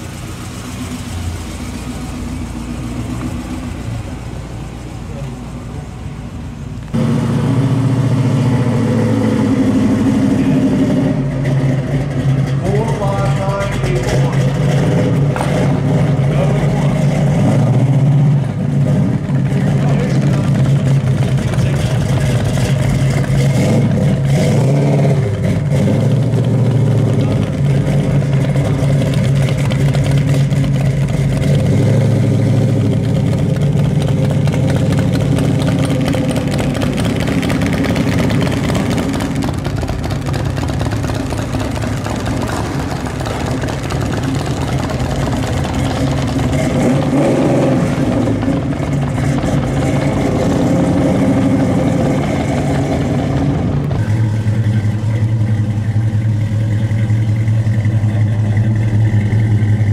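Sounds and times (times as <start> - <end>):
car engine idling: 0.0 - 59.9
car exhaust driving off: 0.0 - 59.9.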